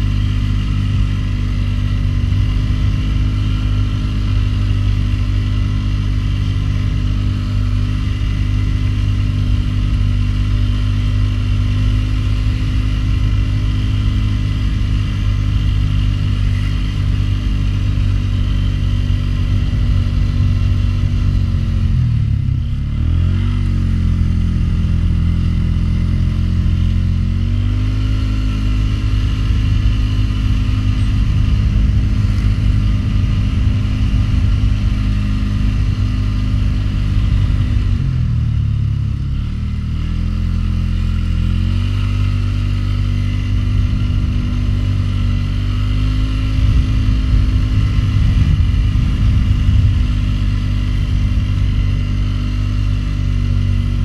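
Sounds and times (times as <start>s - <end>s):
atv engine running under load: 0.0s - 54.0s.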